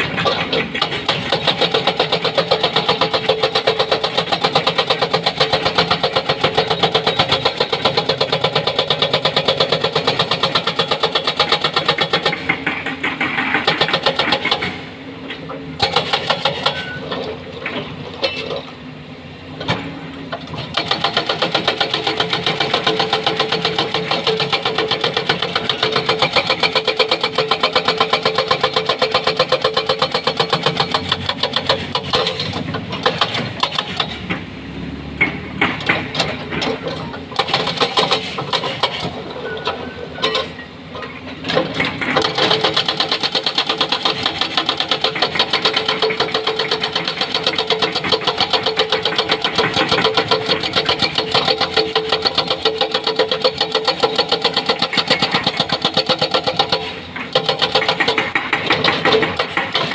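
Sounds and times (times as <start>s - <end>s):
hydraulic breaker hammering rock: 0.0s - 14.9s, 15.7s - 18.7s, 19.6s - 34.5s, 35.2s - 40.6s, 41.4s - 59.9s
excavator engine running: 0.0s - 59.9s.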